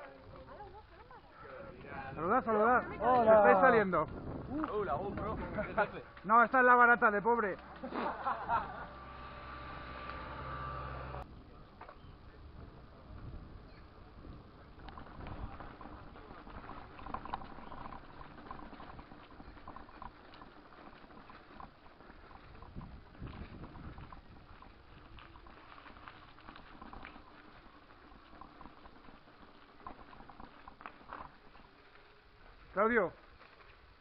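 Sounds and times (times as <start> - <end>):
bicycle rolling over stone paving: 0.0 - 12.0, 13.1 - 34.0.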